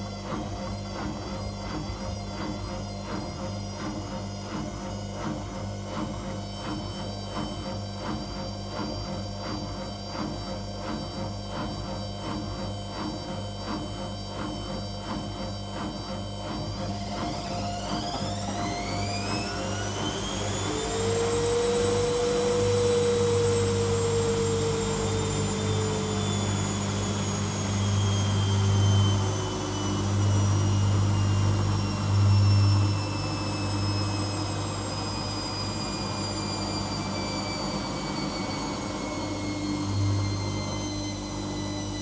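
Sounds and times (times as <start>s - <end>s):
washing machine motor whine: 0.0s - 42.0s.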